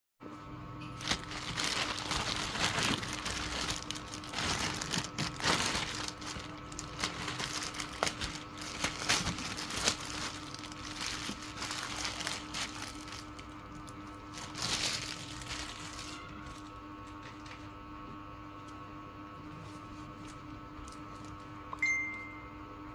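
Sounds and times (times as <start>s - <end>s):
steady low hum: 0.3s - 22.9s
crinkling and rustling handling: 0.8s - 17.8s, 19.4s - 21.6s.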